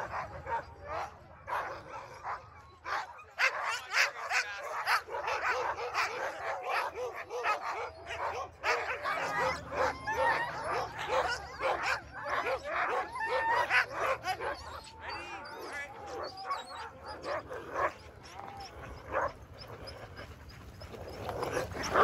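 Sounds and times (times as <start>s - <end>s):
dogs barking and yelping: 0.0s - 22.0s.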